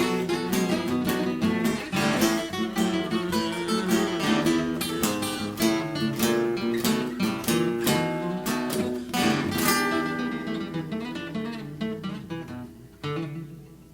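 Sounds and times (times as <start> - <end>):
blues guitar playing: 0.0 - 13.9.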